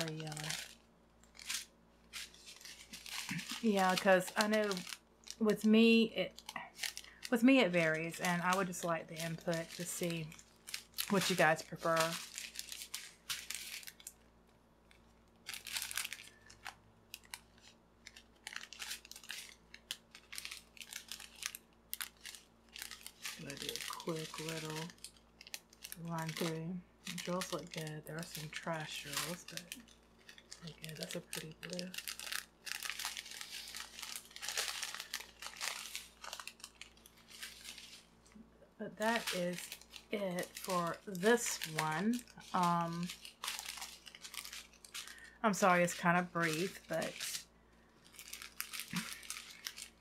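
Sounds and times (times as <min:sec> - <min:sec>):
plastic bags crinkling: 0:00.0 - 0:50.0.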